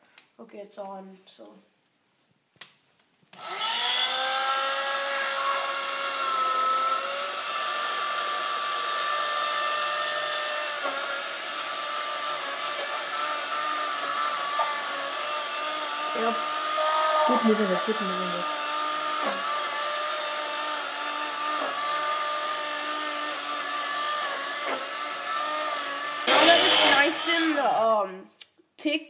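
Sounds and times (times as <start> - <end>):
hand blender motor whine: 3.4 - 27.9.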